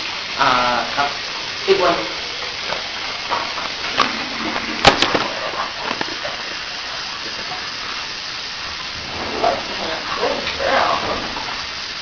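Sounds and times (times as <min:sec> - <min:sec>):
water running into bath: 0:00.0 - 0:12.0.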